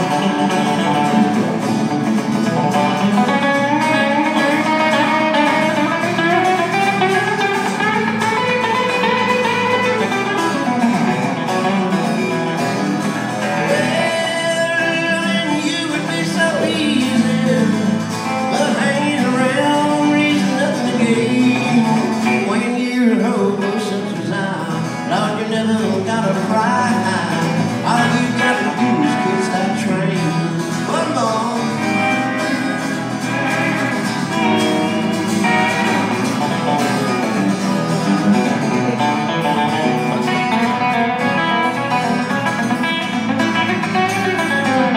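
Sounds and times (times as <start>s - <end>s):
country band playing: 0.0s - 44.9s
guitars playing tune: 0.0s - 44.9s.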